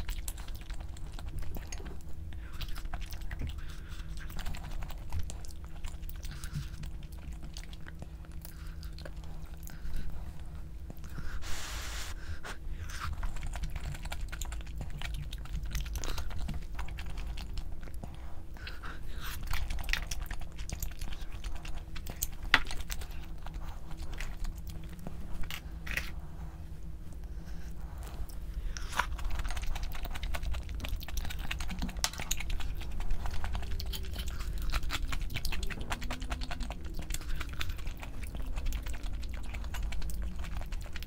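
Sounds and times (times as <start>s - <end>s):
faint steady hum: 0.0s - 41.0s
person chewing food: 0.0s - 41.0s.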